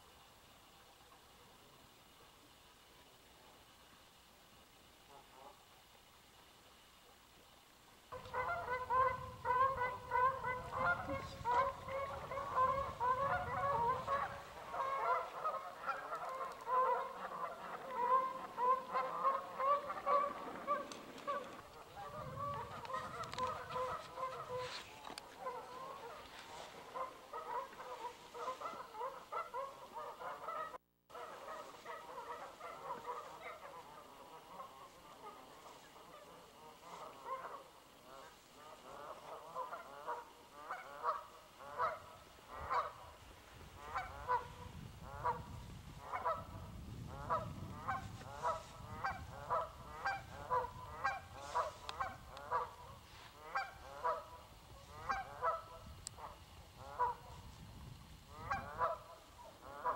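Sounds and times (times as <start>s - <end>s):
geese honking: 8.1s - 57.4s, 58.3s - 59.9s.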